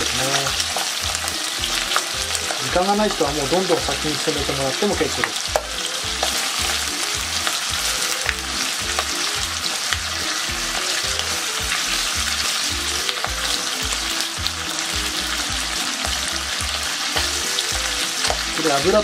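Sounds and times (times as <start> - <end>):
background music with bass line: 0.0 - 19.0
chicken skin sizzling in a pan: 0.0 - 19.0.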